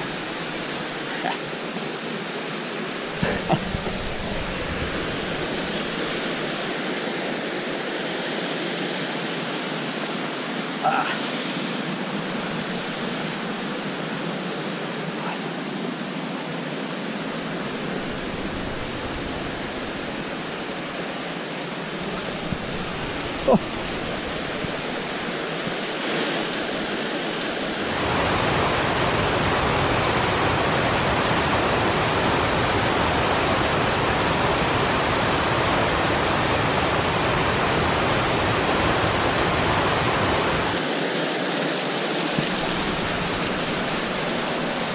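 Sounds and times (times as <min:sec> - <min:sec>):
rushing river and waterfalls: 0:00.0 - 0:44.9.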